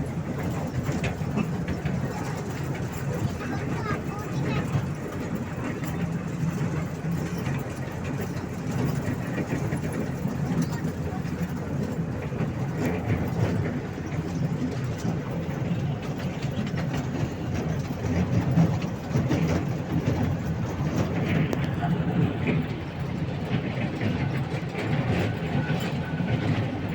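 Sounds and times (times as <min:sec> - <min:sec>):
toy train rumbling: 0:00.0 - 0:26.9.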